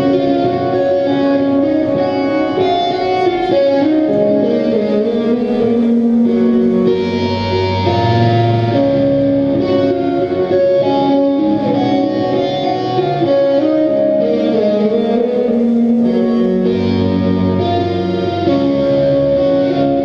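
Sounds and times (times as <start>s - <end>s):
live band playing hardcore: 0.0s - 20.0s.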